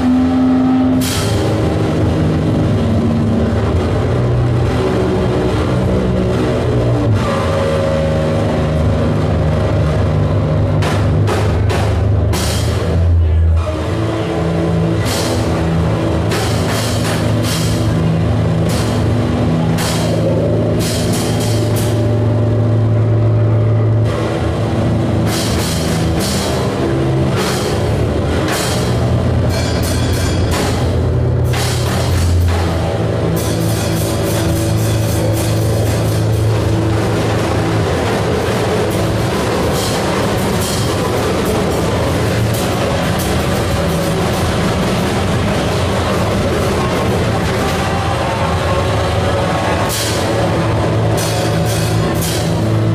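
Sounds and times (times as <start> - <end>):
distorted noise wash: 0.0 - 52.9
low droning tones: 0.0 - 52.9.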